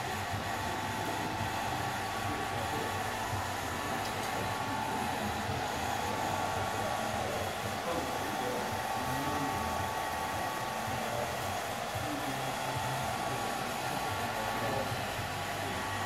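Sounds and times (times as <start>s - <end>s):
electric blower whirring: 0.0s - 16.0s.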